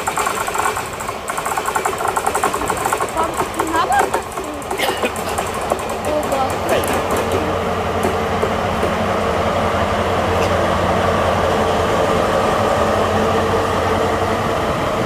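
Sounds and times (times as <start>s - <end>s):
diesel locomotive rolling past: 0.0s - 15.0s.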